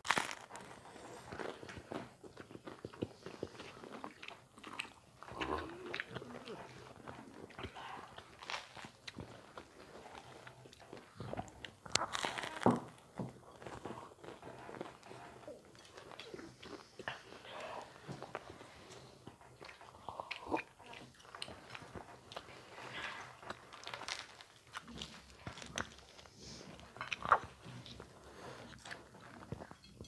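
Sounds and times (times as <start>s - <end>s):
food crunching while chewed: 0.0s - 30.0s.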